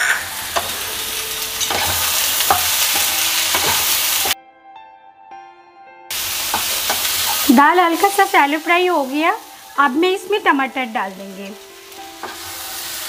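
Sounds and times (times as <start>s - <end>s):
lentils sizzling in oil: 0.0s - 4.4s, 6.1s - 13.0s.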